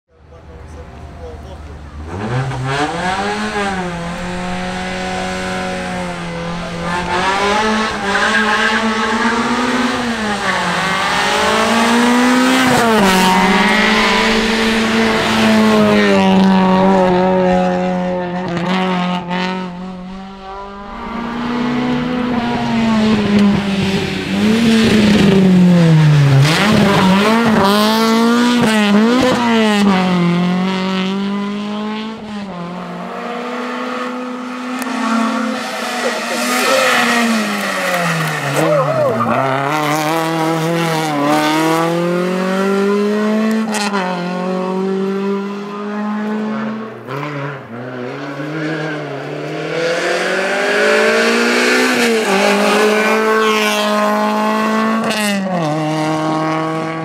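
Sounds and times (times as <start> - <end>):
rally car engine revving hard: 1.3 - 57.0.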